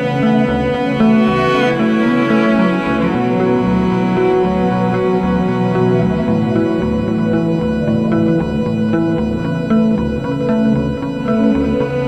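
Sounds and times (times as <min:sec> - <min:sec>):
calm instrumental music: 0:00.0 - 0:12.0.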